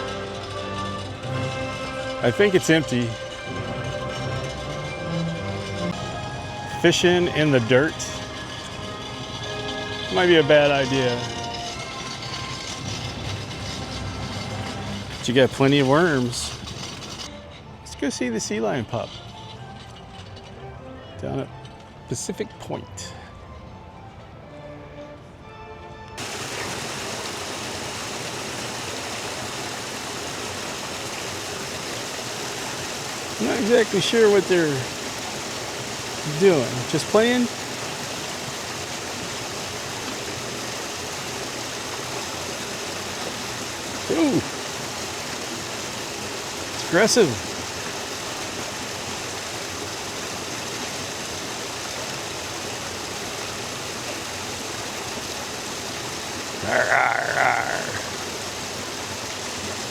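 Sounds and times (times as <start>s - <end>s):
water rushing: 0.0s - 17.2s, 26.2s - 59.9s.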